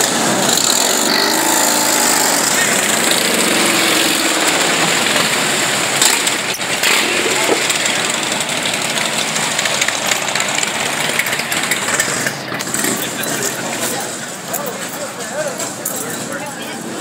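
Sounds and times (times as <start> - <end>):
motorcycle engines riding past: 0.0 - 17.0.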